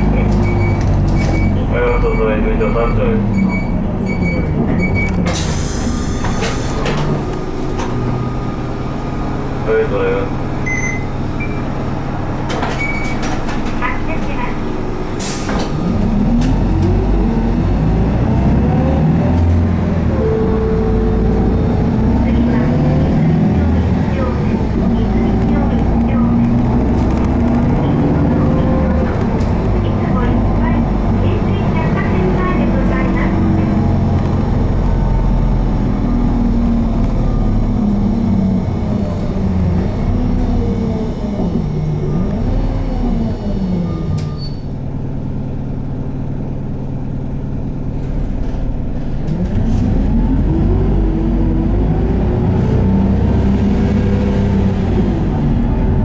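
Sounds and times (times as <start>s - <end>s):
bus diesel engine under load: 0.0s - 56.0s
road and tyre noise: 0.0s - 56.0s.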